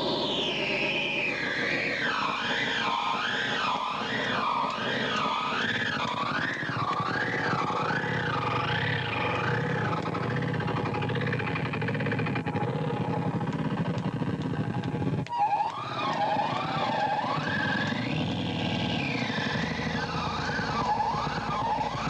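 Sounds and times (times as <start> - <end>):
warbling synth electronic music: 0.0 - 22.0.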